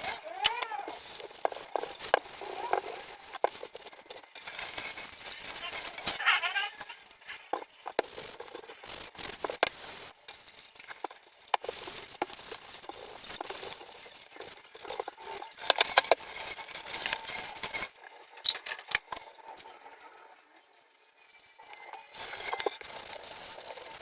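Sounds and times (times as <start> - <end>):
pots scrubbed and scraping: 0.0 - 20.5, 21.1 - 24.0.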